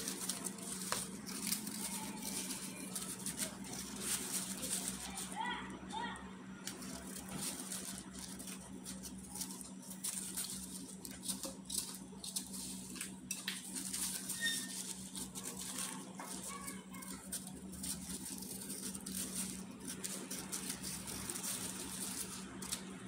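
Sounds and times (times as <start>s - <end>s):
knife paring an apple: 0.0s - 5.4s, 6.6s - 23.0s
plastic gloves rustling: 0.0s - 23.0s
steady low hum: 0.0s - 23.0s.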